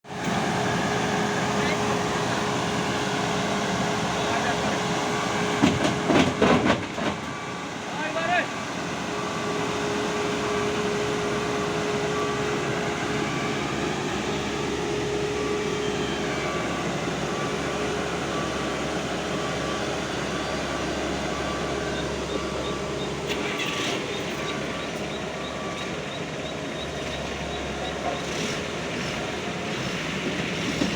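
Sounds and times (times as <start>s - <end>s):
diesel machinery engine running: 0.0s - 30.9s.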